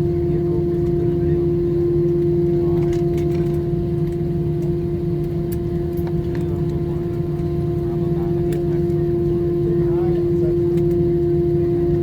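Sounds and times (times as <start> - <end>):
aircraft cabin rumble: 0.0 - 12.0
pitched hum: 0.0 - 12.0.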